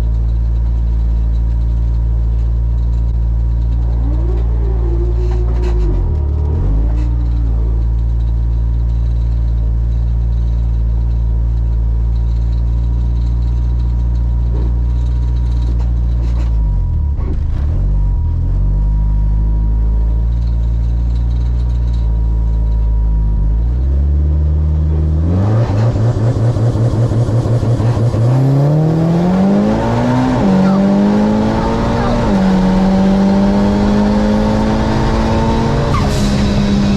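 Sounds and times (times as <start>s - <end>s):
racing car engine idling and revving: 0.0s - 36.9s.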